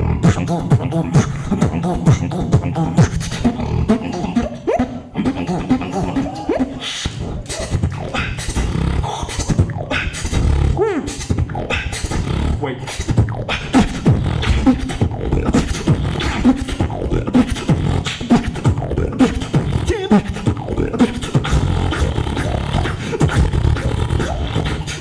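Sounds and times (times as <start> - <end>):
beatboxing: 0.0 - 25.0.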